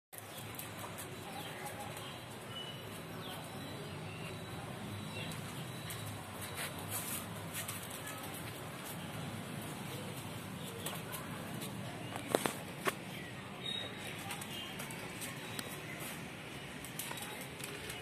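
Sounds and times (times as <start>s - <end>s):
birds chirping: 0.2s - 18.0s.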